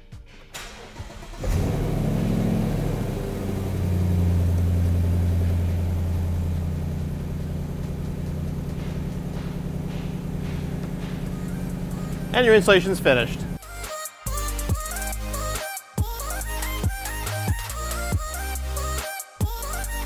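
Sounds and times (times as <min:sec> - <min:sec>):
car engine starting and idling: 0:00.3 - 0:20.0.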